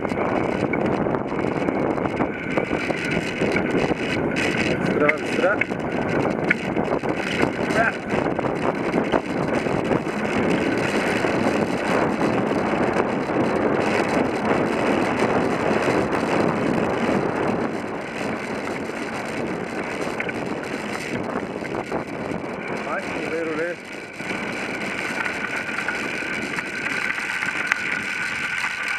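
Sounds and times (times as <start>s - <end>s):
bicycle tyres crunching on gravel: 0.0s - 28.9s
wind buffeting microphone: 0.0s - 28.9s.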